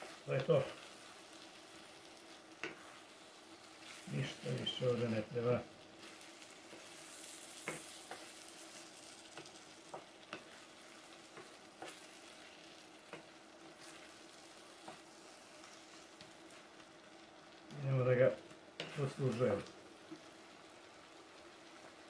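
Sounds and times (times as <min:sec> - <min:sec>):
sauce sizzling: 0:00.0 - 0:22.0.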